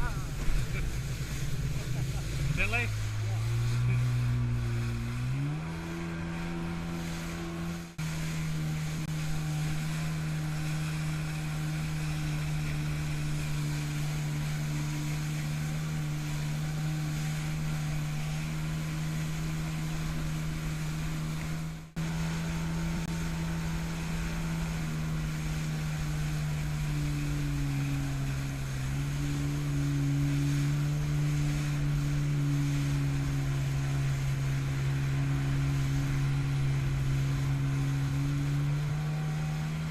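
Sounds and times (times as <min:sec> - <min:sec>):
jet ski engine running: 0:00.0 - 0:39.9
water spray: 0:06.6 - 0:39.9.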